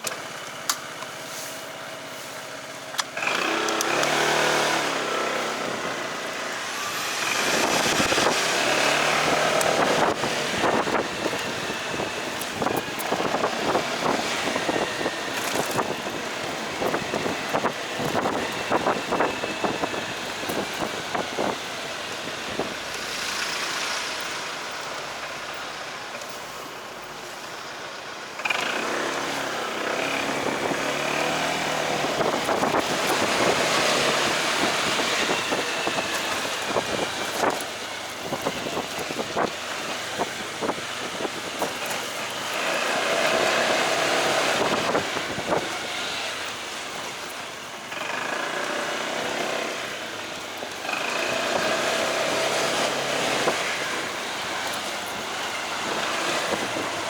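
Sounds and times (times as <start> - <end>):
motorcycle engine and road noise: 0.0 - 57.0
wind on microphone: 4.1 - 24.7, 29.6 - 47.4, 48.4 - 57.0.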